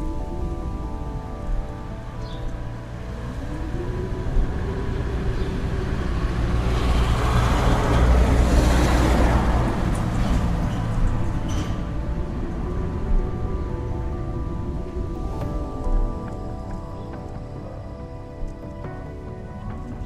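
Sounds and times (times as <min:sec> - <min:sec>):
soft background music: 0:00.0 - 0:20.0
wind howling: 0:00.0 - 0:20.0.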